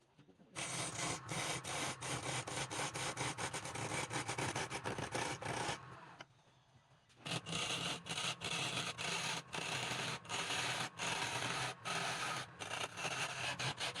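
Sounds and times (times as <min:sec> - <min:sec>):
lathe motor hum: 0:00.6 - 0:06.1, 0:07.3 - 0:14.0.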